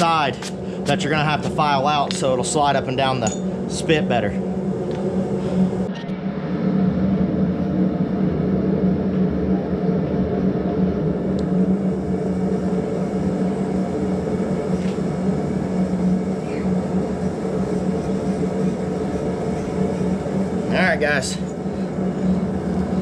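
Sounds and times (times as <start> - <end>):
forge rushing noise: 0.0 - 23.0
low hum: 0.0 - 23.0.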